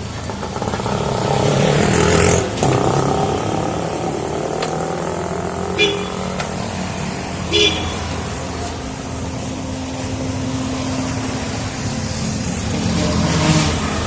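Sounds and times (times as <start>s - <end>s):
traffic hum: 0.0s - 14.0s
vehicle engine passing: 0.0s - 14.0s.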